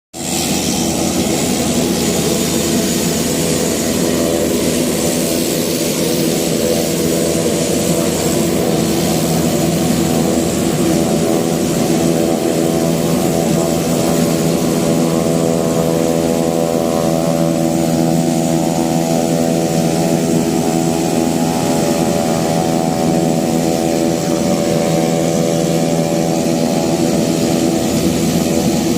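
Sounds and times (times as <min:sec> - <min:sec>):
jet engines humming: 0:00.2 - 0:28.9
thin high whine: 0:00.2 - 0:28.9.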